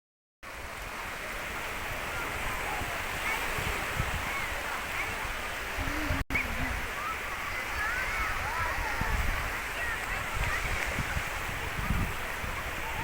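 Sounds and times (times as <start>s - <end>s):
sea surf washing onto beach: 0.4s - 13.0s
wind buffeting microphone: 1.8s - 13.0s.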